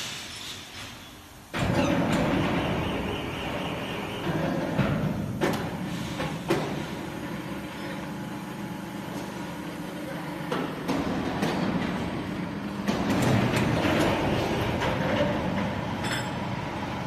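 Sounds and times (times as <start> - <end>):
industrial machinery hum: 0.0 - 17.0.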